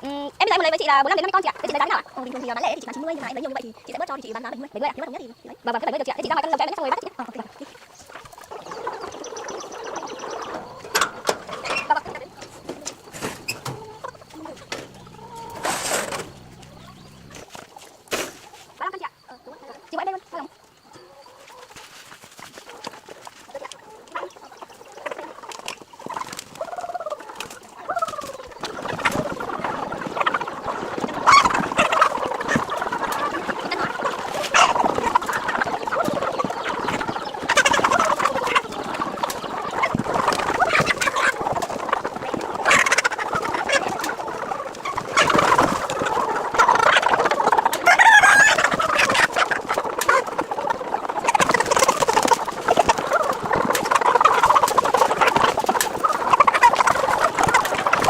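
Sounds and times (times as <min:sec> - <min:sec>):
chickens clucking and squawking: 0:00.0 - 0:58.0.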